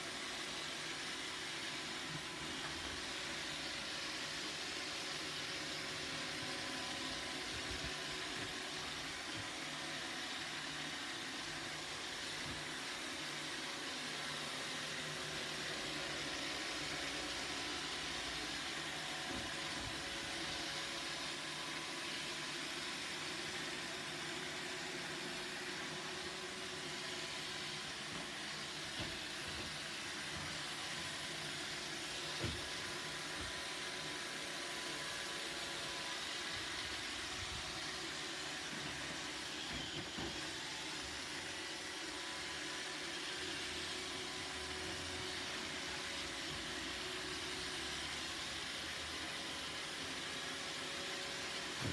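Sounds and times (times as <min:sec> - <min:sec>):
robot vacuum running: 0:00.0 - 0:51.9.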